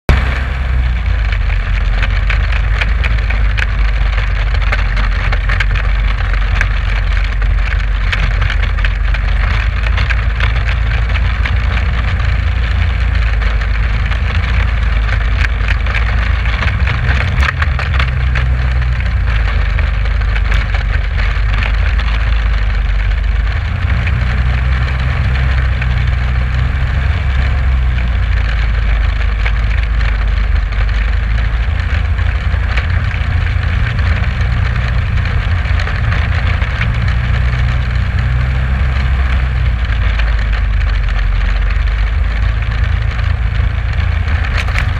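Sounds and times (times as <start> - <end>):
engine low drone: 0.0 - 44.9
crackling rattle of hull: 0.1 - 44.9.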